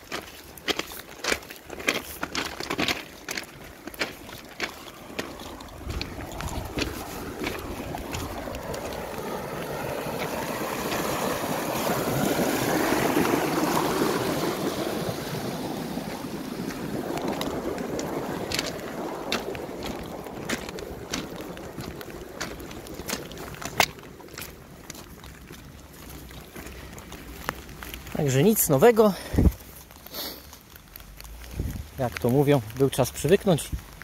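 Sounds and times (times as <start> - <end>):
footsteps on gravel and grass: 0.0 - 15.0, 16.0 - 34.0
water gushing from a pipe: 0.0 - 34.0.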